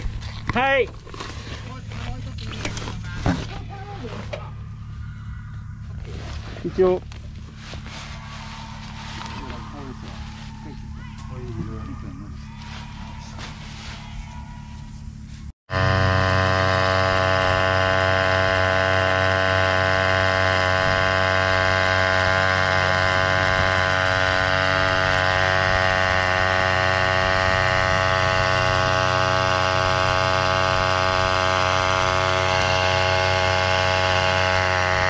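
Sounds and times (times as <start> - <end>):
air compressor running: 0.0 - 14.4, 15.0 - 35.0.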